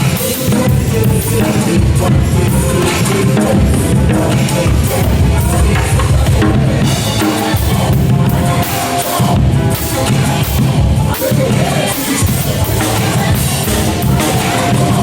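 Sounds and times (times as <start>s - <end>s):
backing music track: 0.0s - 15.0s
drum kit playing: 0.0s - 15.0s.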